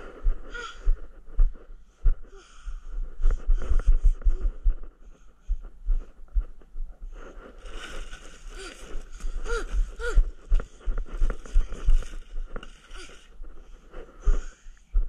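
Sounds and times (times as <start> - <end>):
breathing close to microphone: 0.0 - 15.0.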